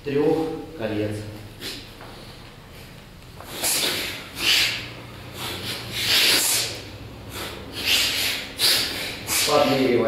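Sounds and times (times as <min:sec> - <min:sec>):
forceful breaths through nose: 0:01.6 - 0:09.8.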